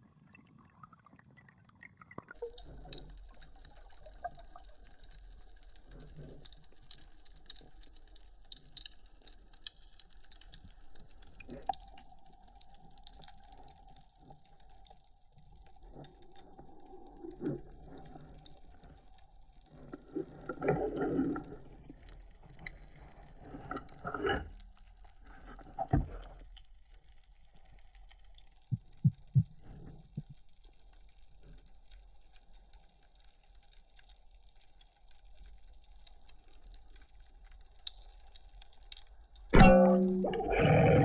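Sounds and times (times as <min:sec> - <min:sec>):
underwater crackle of clicks: 0:02.1 - 0:41.0.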